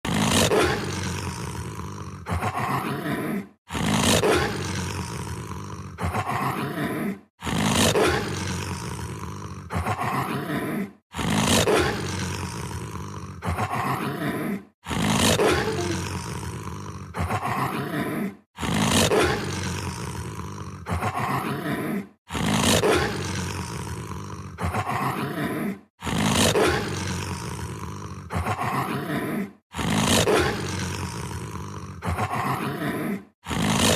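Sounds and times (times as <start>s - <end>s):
beast-like roar: 0.0s - 33.9s.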